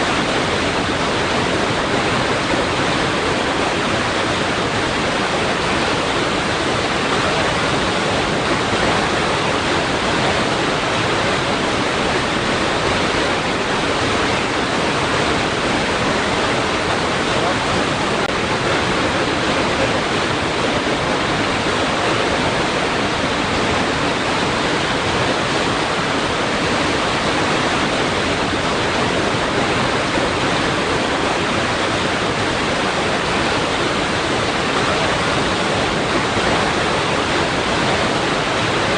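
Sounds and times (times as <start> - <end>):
water rushing against rocks: 0.0 - 38.9.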